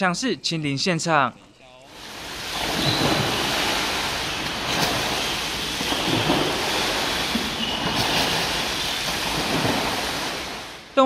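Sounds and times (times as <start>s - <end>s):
water splashing and rushing: 1.9s - 11.0s.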